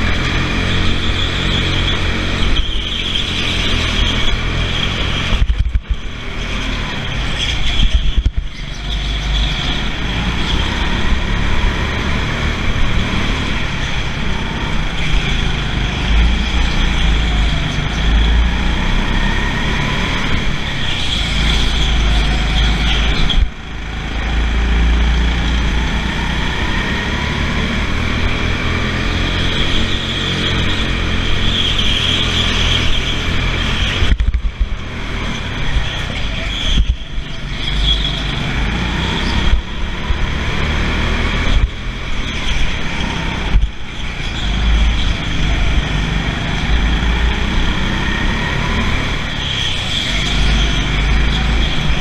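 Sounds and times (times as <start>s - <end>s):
go-kart motor racing: 0.0s - 52.0s
other karts nearby: 0.0s - 52.0s.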